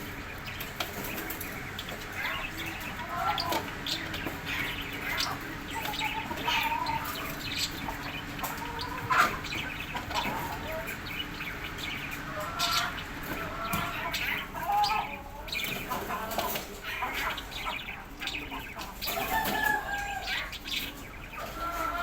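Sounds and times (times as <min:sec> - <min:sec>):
birds calling and chirping: 0:00.0 - 0:22.0
steady low hum: 0:00.0 - 0:22.0.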